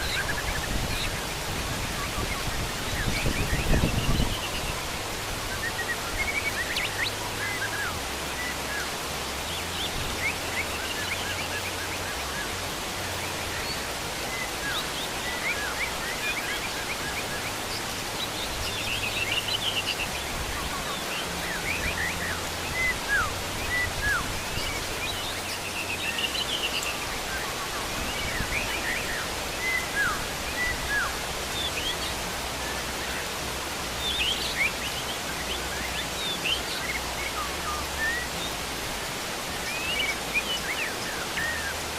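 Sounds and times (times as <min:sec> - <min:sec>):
birds chirping and twittering: 0:00.0 - 0:41.9
heavy rain falling: 0:00.0 - 0:41.9.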